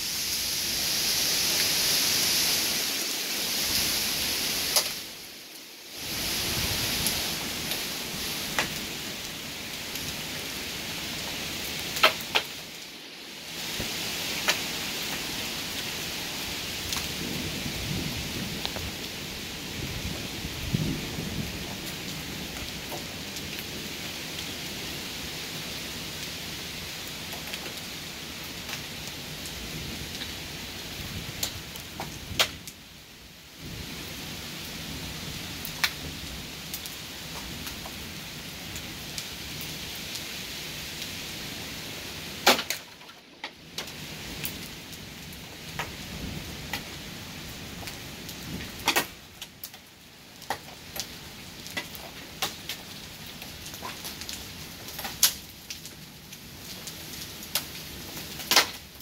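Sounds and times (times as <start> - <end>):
heavy rain falling: 0.0 - 59.0
raindrops ticking close by: 2.4 - 59.0.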